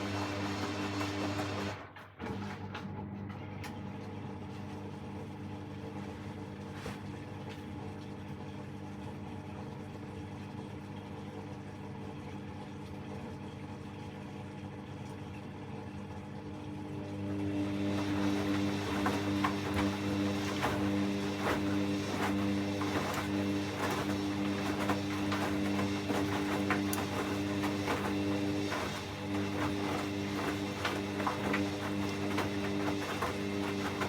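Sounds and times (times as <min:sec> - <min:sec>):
washing machine spin hum: 0:00.0 - 0:34.0.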